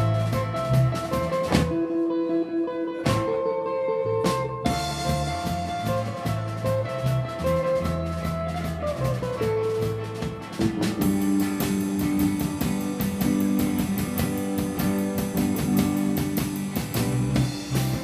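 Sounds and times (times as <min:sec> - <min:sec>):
drums and cymbals: 0:00.0 - 0:02.0, 0:03.0 - 0:03.5, 0:04.2 - 0:18.0
bass: 0:00.0 - 0:18.0
electric guitar melody: 0:00.0 - 0:18.0.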